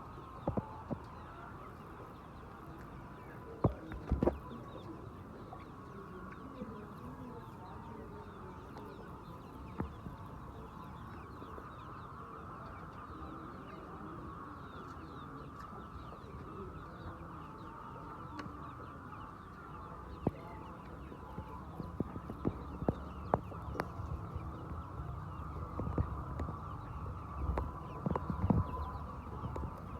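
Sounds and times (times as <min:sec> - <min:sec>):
chickens clucking and chirping: 0:00.0 - 0:29.9.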